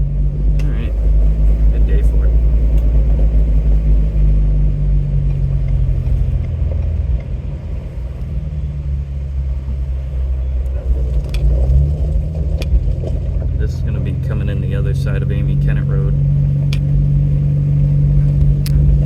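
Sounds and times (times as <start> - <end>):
vehicle engine rumble from cab: 0.0 - 19.0.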